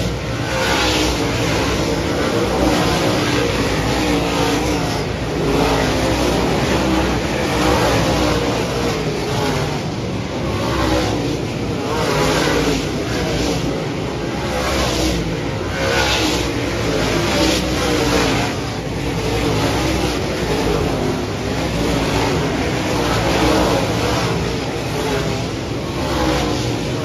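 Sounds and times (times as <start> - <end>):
race car engines running hard: 0.0 - 27.0.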